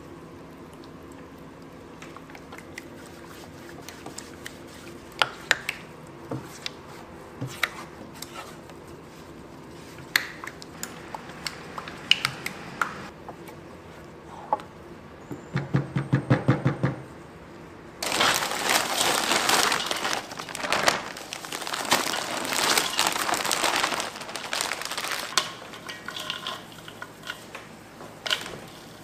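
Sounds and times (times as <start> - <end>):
faint hum: 0.0 - 29.0.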